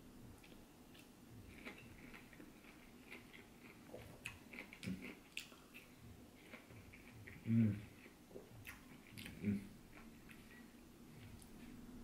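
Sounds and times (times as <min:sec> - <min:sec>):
chewing and biting pineapple: 0:00.4 - 0:10.6.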